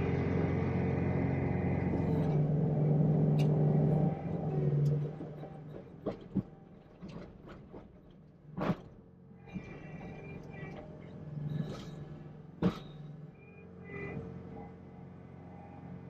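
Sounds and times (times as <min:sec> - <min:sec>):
diesel engine running at low revs: 0:00.0 - 0:16.0.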